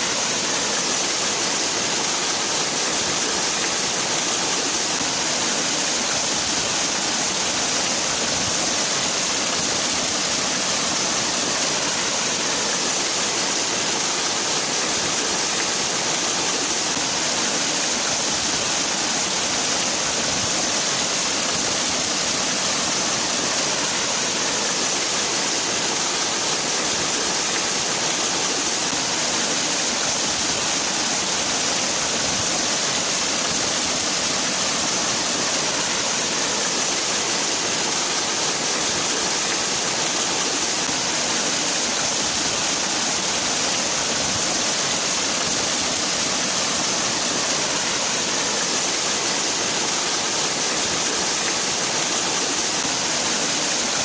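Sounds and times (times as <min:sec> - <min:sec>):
waterfall hissing: 0:00.0 - 0:54.0.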